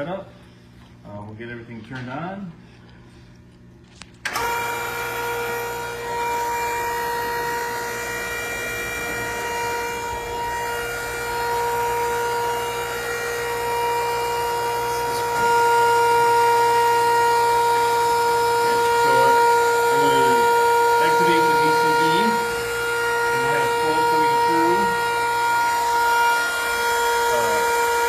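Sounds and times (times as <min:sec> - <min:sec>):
hydraulic pump whine and hum: 0:00.0 - 0:28.0.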